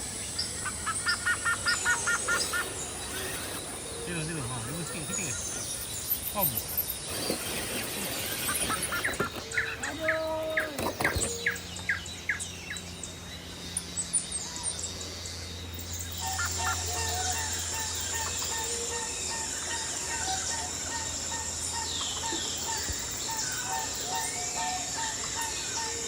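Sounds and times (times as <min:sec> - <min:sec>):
birds chirping: 0:00.0 - 0:26.0
high insect drone: 0:00.0 - 0:26.0.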